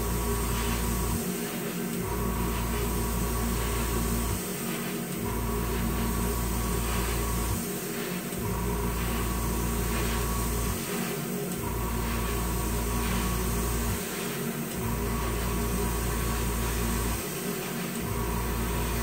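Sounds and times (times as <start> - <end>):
compressor hum: 0.0 - 19.0
spray booth fan hissing: 0.0 - 19.0.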